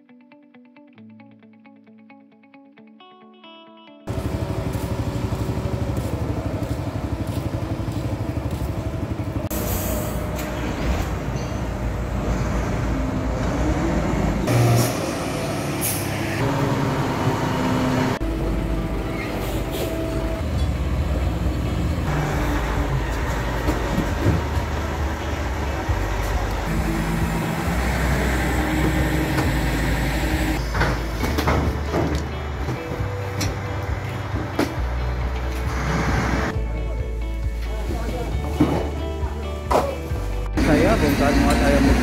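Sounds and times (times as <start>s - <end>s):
cargo-handling machinery: 4.1s - 36.5s, 40.6s - 42.0s
diesel truck engines rumbling: 4.1s - 39.6s, 40.2s - 42.0s.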